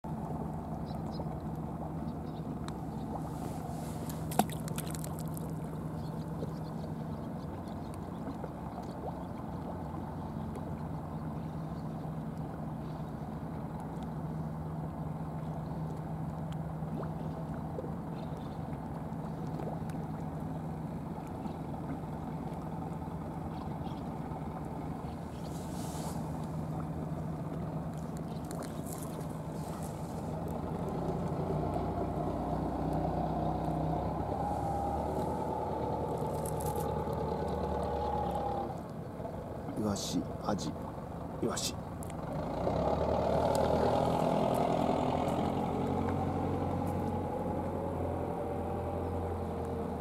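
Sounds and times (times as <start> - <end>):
engine droning: 0.1 - 50.0.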